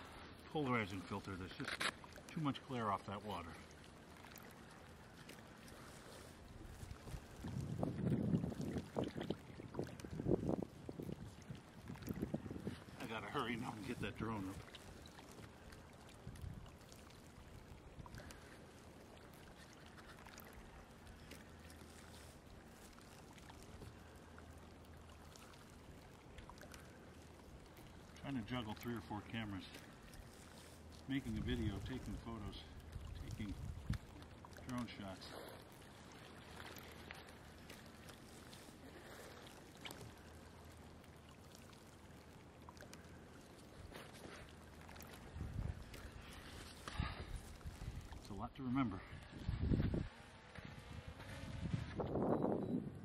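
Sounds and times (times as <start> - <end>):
faint ticks: 0.0 - 48.3
water trickling and lapping: 0.0 - 53.0.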